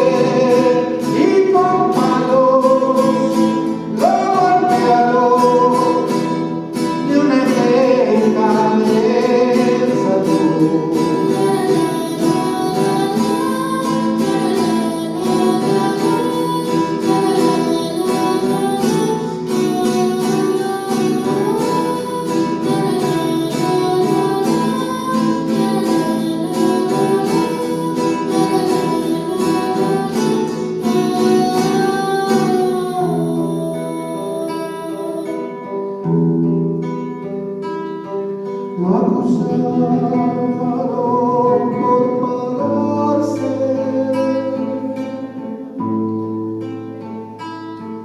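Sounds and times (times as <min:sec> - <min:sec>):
strummed acoustic guitar: 0:00.0 - 0:48.0.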